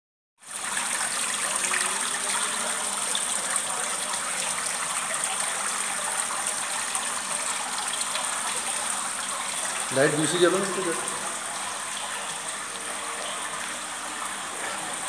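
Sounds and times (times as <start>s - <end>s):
fountain water splashing: 0.6s - 15.0s.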